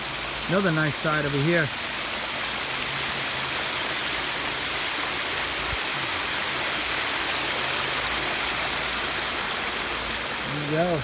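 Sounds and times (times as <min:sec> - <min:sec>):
water cascading over rocks: 0:00.0 - 0:11.0.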